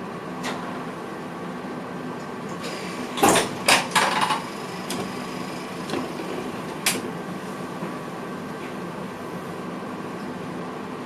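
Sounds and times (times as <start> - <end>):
train cab hum: 0.0 - 11.0.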